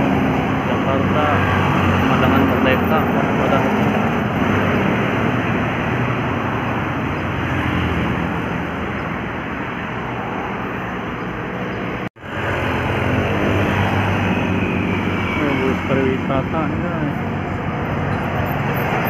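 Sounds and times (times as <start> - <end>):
heavy vehicle engine passing: 0.0 - 19.0.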